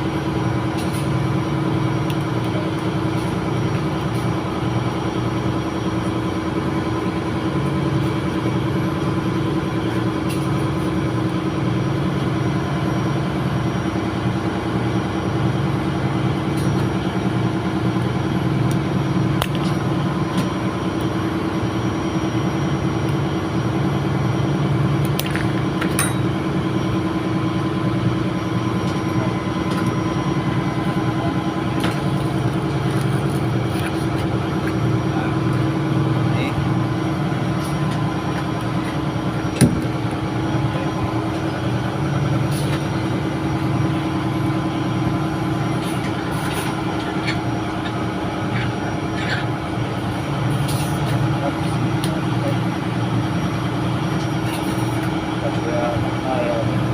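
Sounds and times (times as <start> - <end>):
engine room machinery drone: 0.0 - 56.9.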